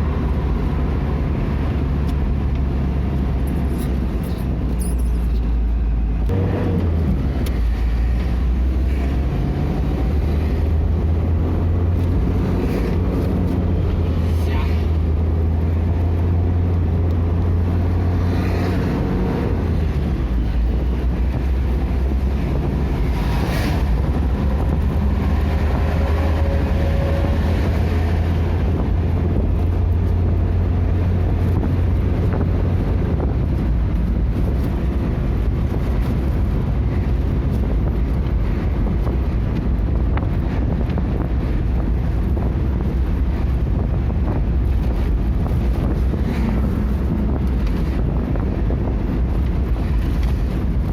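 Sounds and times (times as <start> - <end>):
vehicle engine and road drone: 0.0 - 50.9.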